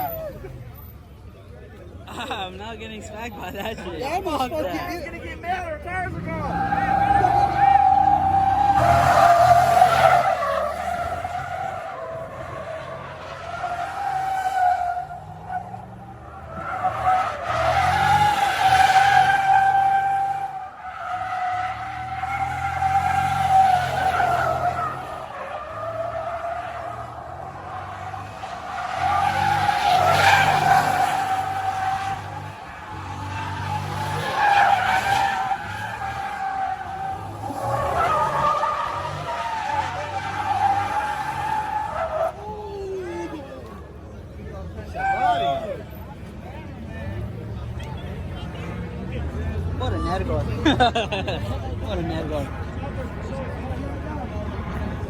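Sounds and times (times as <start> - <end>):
car tyres squealing: 0.0 - 55.0.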